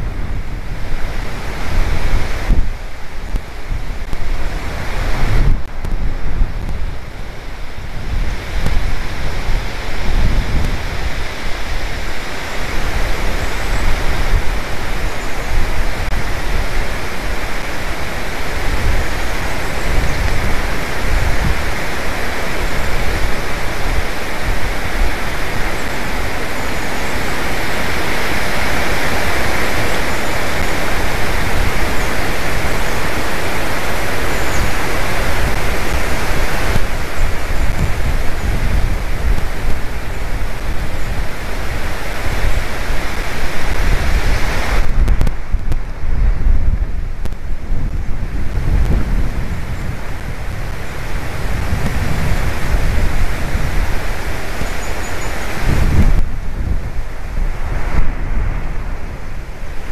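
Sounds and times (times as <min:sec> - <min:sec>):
wind blowing on microphone: 0:00.0 - 0:59.9.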